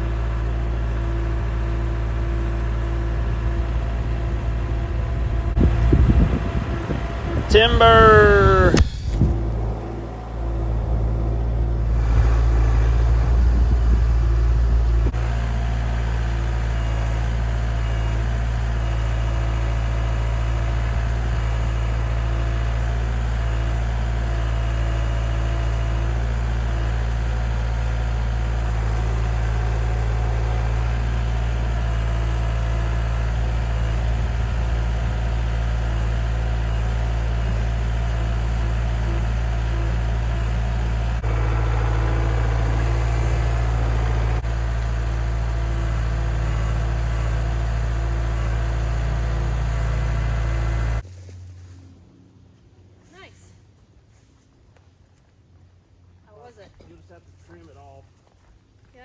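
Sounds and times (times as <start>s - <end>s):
tractor diesel engine running: 0.0s - 51.2s.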